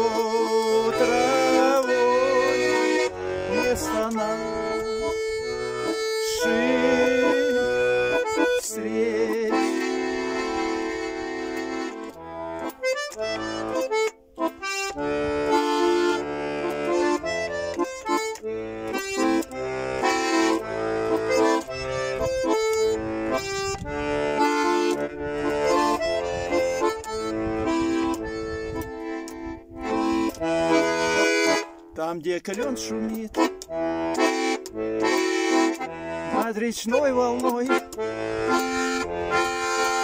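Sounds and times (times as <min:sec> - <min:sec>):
button accordion melody: 0:00.0 - 0:40.0.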